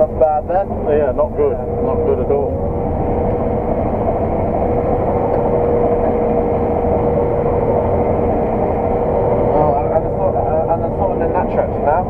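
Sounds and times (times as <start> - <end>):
combine harvester running: 0.0 - 12.0
constant machine whine: 0.0 - 12.0.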